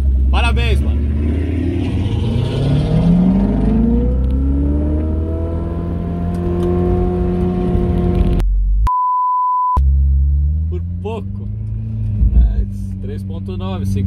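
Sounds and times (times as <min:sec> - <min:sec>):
car engine accelerating: 0:00.0 - 0:08.5, 0:09.8 - 0:14.0.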